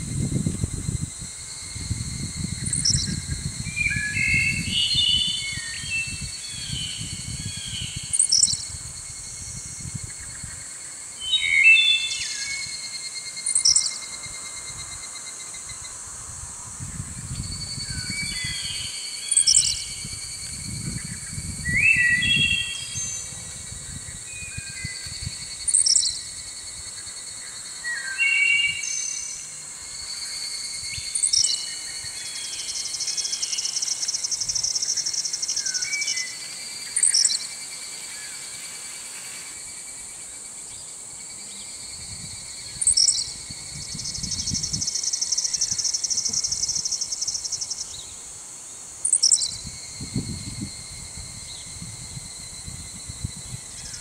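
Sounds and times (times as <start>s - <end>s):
high insect drone: 0.0s - 54.0s
small birds chirping and whistling: 1.6s - 14.2s, 16.9s - 38.5s, 41.5s - 48.2s, 49.0s - 54.0s.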